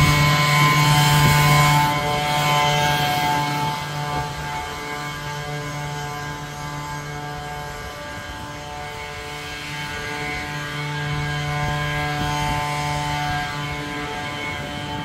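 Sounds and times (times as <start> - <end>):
steady engine drone: 0.0 - 15.0.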